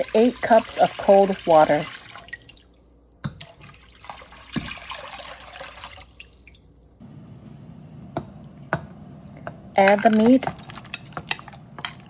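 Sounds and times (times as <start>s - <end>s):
water moving and dripping in pot: 0.0s - 7.0s, 8.2s - 12.0s.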